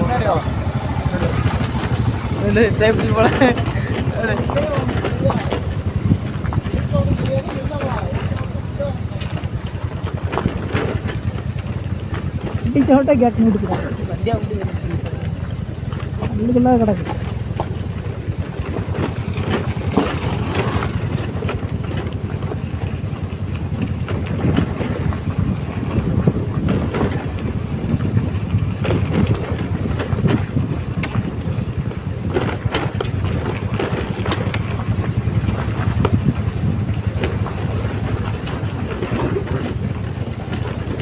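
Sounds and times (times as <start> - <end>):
knocks and rattles: 0.0 - 41.0
scooter engine running: 0.0 - 41.0
wind buffeting microphone: 0.0 - 41.0.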